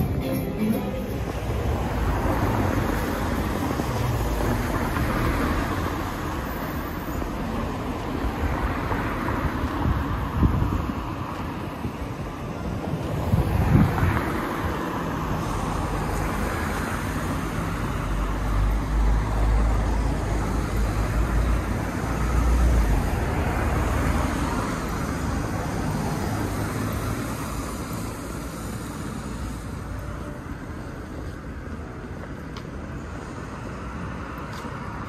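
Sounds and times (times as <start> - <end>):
cars driving past: 0.0 - 32.2.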